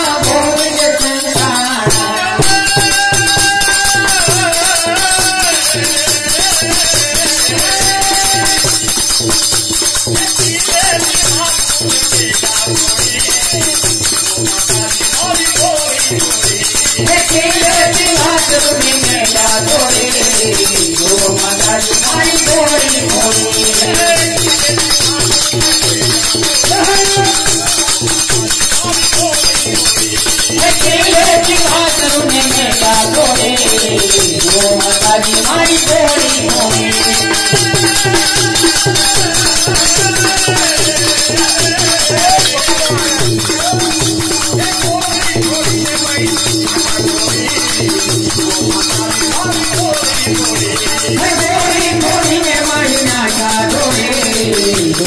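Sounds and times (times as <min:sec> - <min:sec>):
jingling hand percussion: 0:00.0 - 0:55.0
man singing into a microphone: 0:00.0 - 0:55.0.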